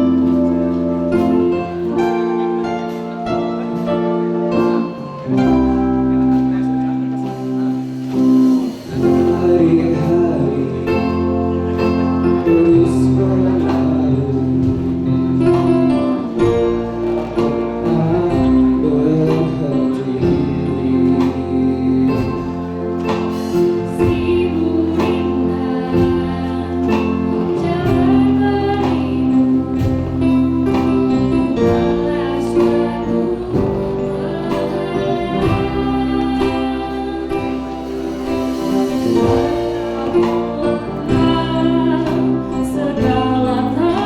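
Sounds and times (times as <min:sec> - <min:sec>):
choir singing: 0:07.3 - 0:44.0.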